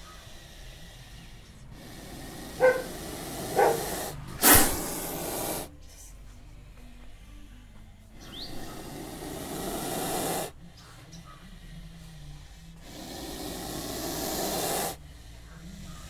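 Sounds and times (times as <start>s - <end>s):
snake hissing: 0.0s - 6.1s, 7.2s - 16.0s.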